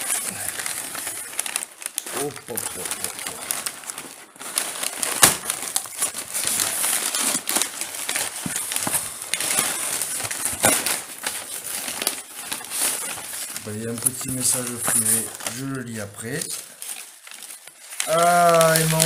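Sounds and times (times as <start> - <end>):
cardboard and tape rustling: 0.0 - 19.0
cardboard cracking: 0.0 - 19.0.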